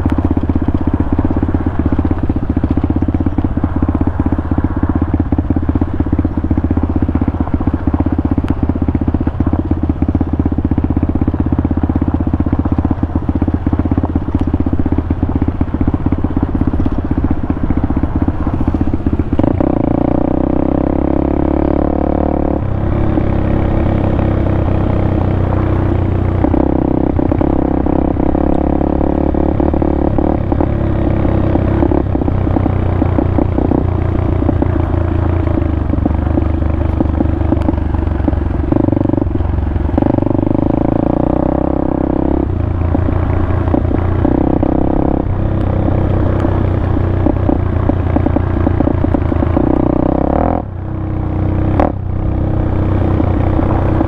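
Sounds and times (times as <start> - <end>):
motorbike engine running: 0.0 - 54.0.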